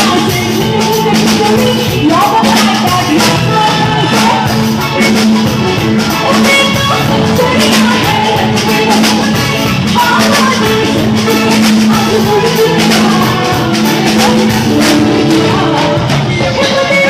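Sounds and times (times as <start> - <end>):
electric guitar: 0.0 - 17.0
steady drum beat: 0.0 - 17.0
woman singing: 0.0 - 17.0.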